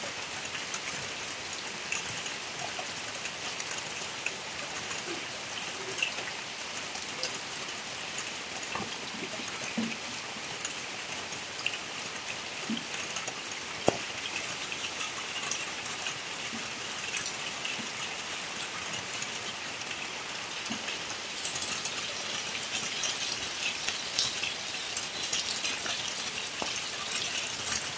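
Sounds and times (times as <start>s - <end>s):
heavy rain on dirt and foliage: 0.0s - 27.9s.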